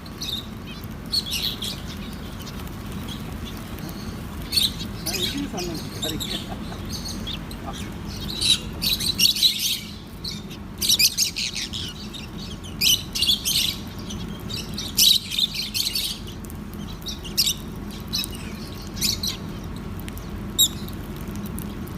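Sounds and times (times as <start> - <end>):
steady low hum: 0.0 - 21.9
lovebirds chirping: 0.1 - 21.0.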